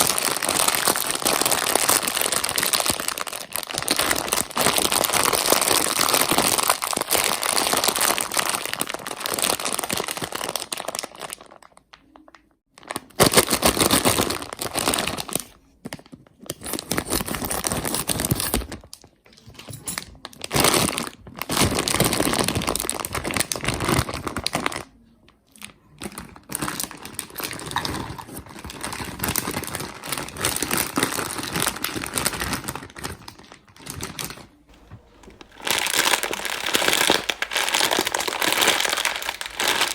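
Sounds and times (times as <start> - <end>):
plastic wrappers crinkling: 0.0 - 24.9, 25.6 - 39.9.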